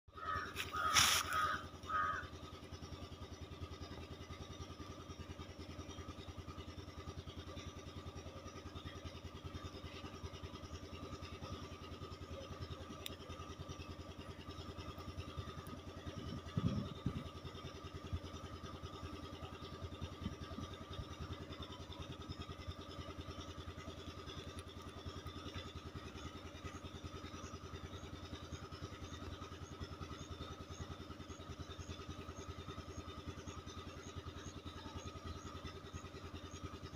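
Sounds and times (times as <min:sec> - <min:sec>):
mechanical hum with rapid pulse: 0:00.1 - 0:36.9.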